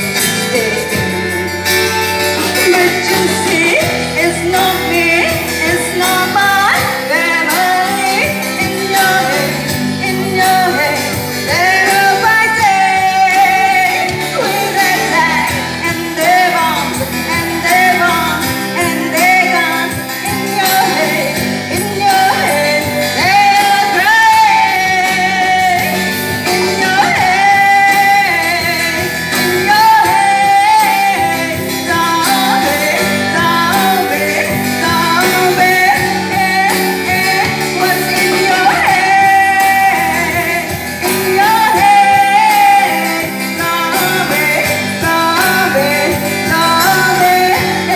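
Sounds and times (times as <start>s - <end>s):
acoustic guitar: 0.0s - 47.9s
woman singing into microphone: 0.0s - 47.9s.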